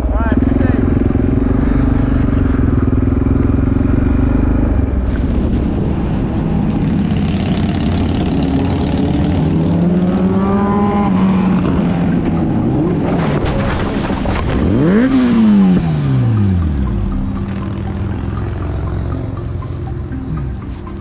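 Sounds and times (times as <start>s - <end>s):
engines revving: 0.0s - 21.0s
motorcycle engine running: 0.0s - 21.0s.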